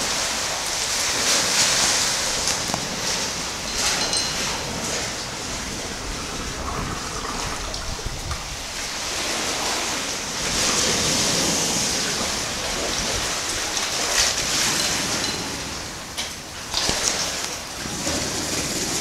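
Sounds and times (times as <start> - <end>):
water sloshing under a deck: 0.0 - 19.0.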